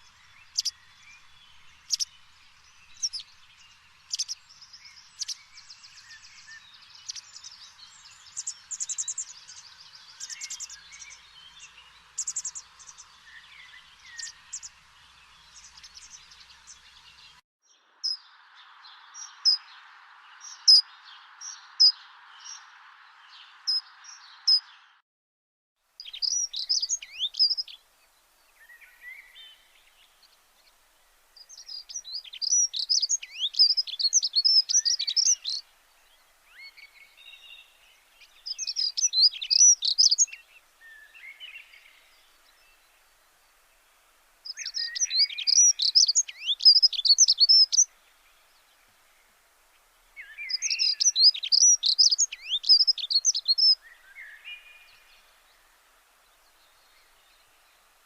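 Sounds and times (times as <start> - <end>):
birds chirping: 0.0 - 17.4, 26.0 - 58.0
faint hiss: 0.0 - 25.0, 25.8 - 58.0.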